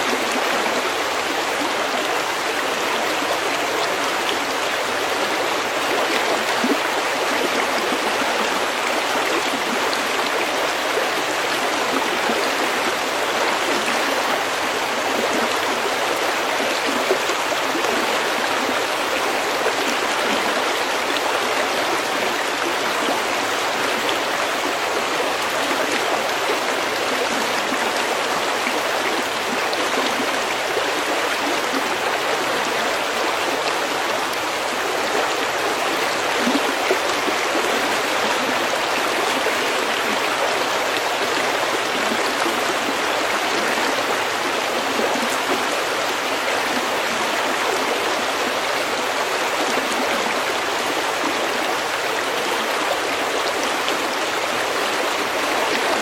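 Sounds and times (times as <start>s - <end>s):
stream babbling over pebbles: 0.0s - 56.0s.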